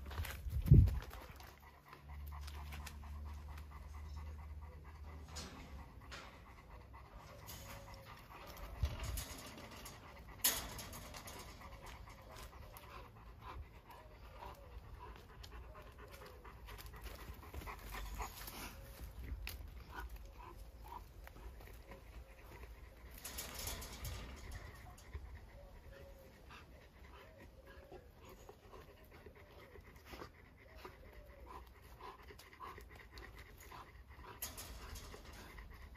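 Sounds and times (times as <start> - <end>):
dogs panting: 0.0 - 35.9.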